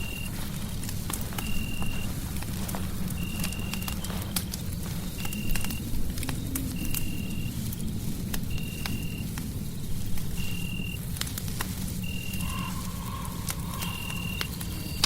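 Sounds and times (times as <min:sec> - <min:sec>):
fire crackling and popping: 0:00.0 - 0:15.0
steady low rumble: 0:00.0 - 0:15.0.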